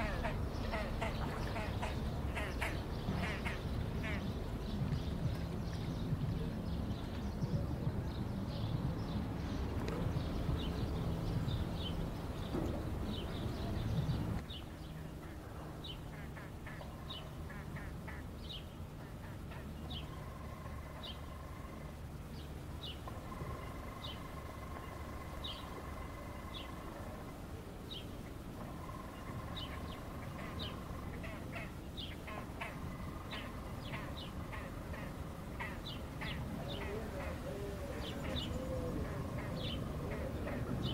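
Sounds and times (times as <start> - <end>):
low rumble of harbour noise: 0.0 - 40.9
waterbirds calling: 0.0 - 40.9.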